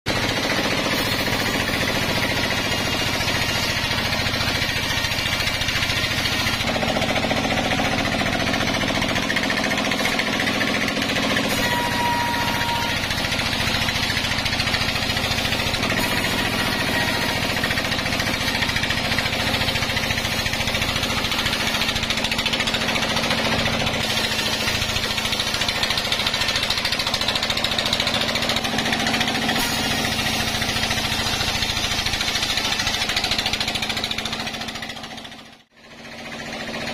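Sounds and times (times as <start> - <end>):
band saw cutting log: 0.1 - 36.9.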